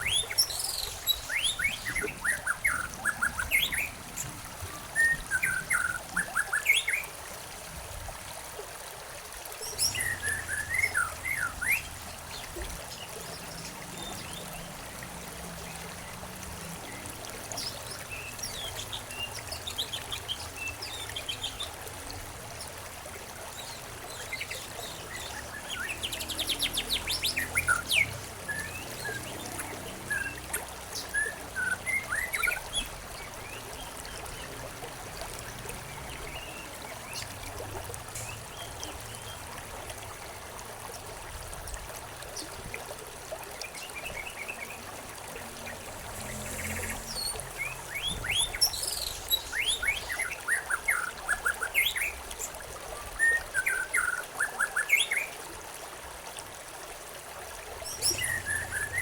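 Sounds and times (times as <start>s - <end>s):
songbirds chirping: 0.0s - 7.0s, 9.6s - 40.6s, 43.4s - 55.3s, 57.7s - 59.0s
stream trickling: 0.0s - 59.0s.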